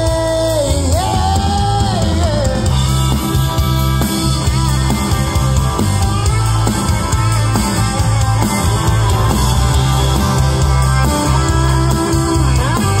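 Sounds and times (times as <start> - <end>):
live country rock band: 0.0 - 13.0.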